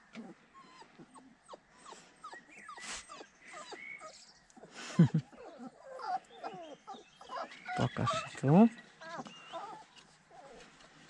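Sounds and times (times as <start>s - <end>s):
puppy whimpering: 0.2s - 10.7s.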